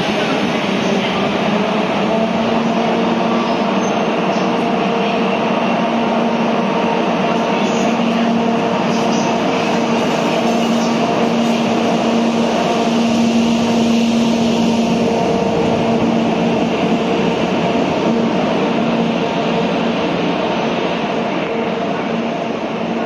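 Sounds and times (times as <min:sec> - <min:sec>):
electric locomotive machinery hum: 0:00.0 - 0:23.0
train wheels on rails: 0:00.0 - 0:23.0.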